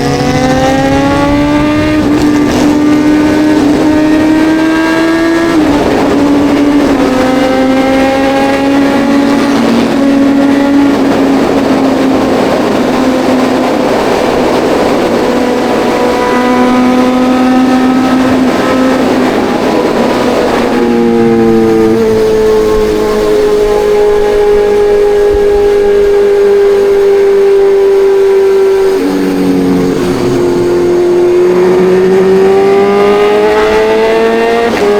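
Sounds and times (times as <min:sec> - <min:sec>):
motorcycle engine running: 0:00.0 - 0:34.9
wind noise: 0:00.0 - 0:34.9.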